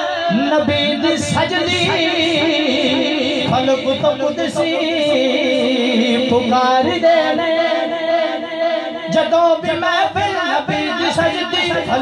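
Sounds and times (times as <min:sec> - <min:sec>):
man singing through a microphone: 0:00.0 - 0:12.0.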